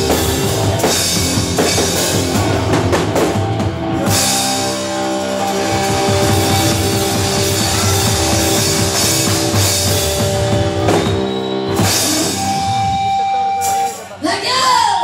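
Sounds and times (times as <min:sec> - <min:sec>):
rock music with drums and guitar: 0:00.0 - 0:14.9.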